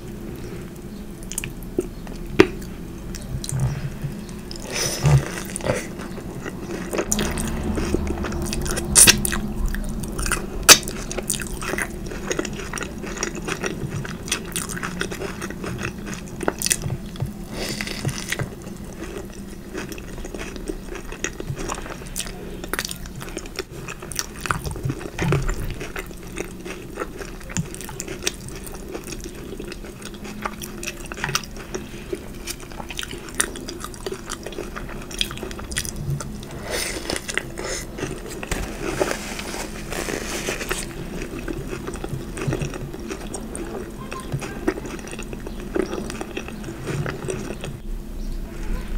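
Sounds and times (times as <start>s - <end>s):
wet chewing and mouth smacks: 1.2s - 3.6s, 4.2s - 39.2s, 39.9s - 47.8s.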